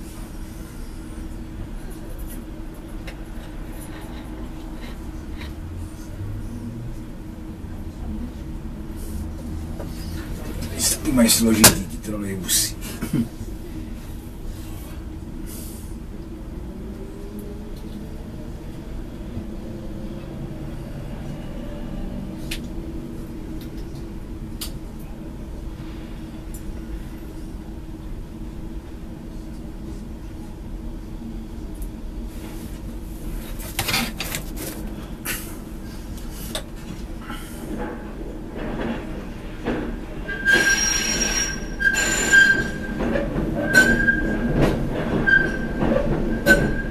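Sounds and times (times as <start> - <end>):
tram hum and rumble: 0.0 - 46.9.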